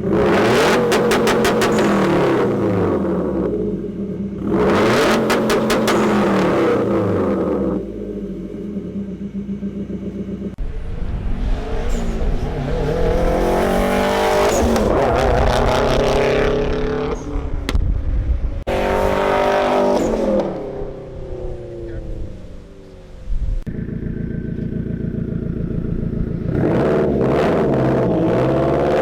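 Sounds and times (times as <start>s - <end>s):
car exhaust accelerating hard: 0.0s - 29.0s.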